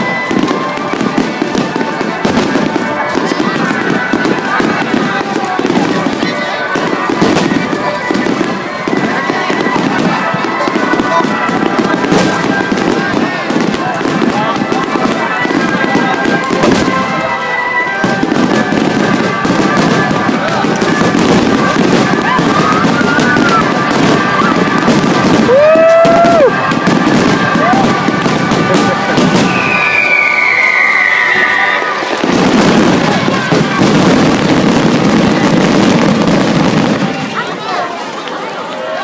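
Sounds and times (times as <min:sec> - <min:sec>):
crowd hubbub: 0:00.0 - 0:39.0
fireworks bangs and crackles: 0:00.0 - 0:39.0.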